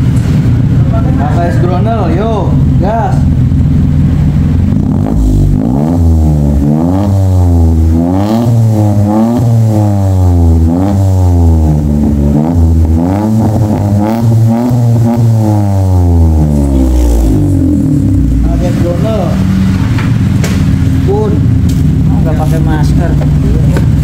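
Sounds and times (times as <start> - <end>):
car engine revving through exhaust: 0.0 - 24.0.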